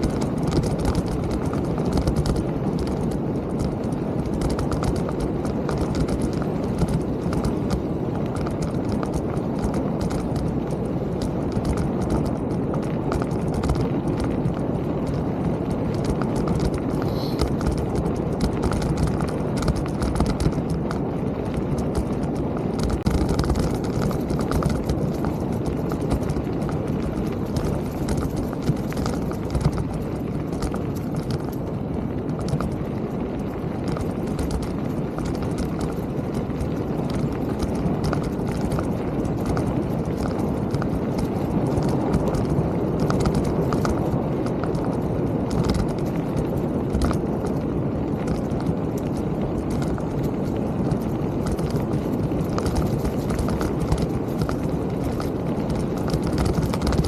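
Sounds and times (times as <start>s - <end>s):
bike clicks and rattles: 0.0s - 57.0s
mountain bike rumbling on trail: 0.0s - 57.0s.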